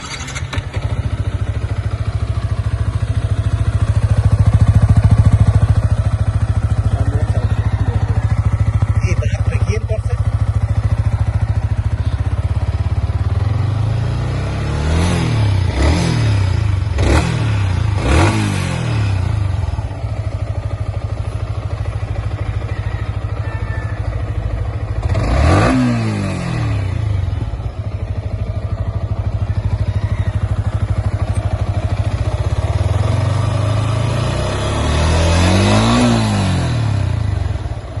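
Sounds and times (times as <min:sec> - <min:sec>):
motorcycle engine idling and revving: 0:00.0 - 0:38.0.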